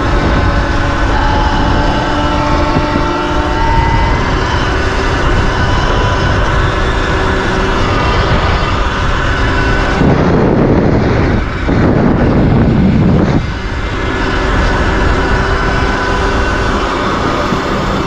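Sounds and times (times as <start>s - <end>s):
electric motor whining: 0.0s - 18.0s
wind noise on microphone: 0.0s - 18.0s.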